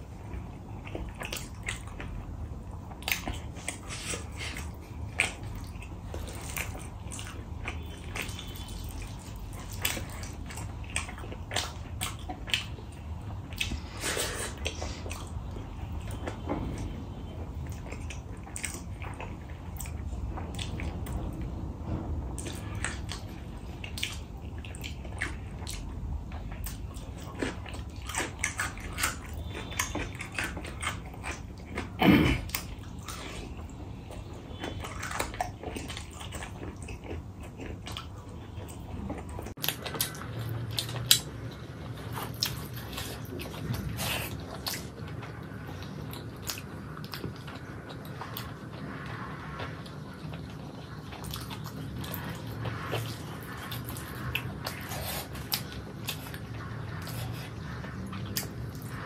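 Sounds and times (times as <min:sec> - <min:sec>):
chewing and smacking: 0:00.0 - 0:59.0.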